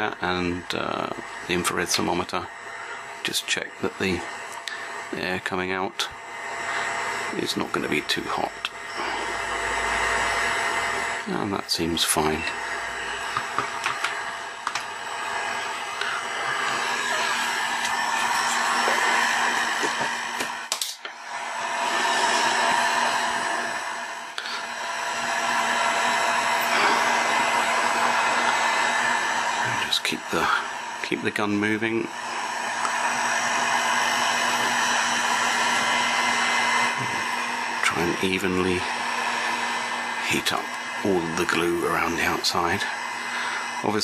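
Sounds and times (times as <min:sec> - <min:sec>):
hot air gun blowing: 0:00.0 - 0:44.0.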